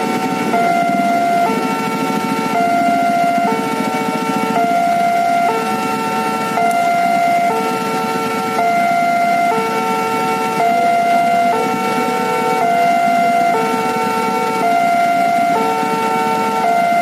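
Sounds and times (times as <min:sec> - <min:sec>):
road traffic: 0:00.0 - 0:17.0
two-tone level crossing alarm: 0:00.0 - 0:17.0.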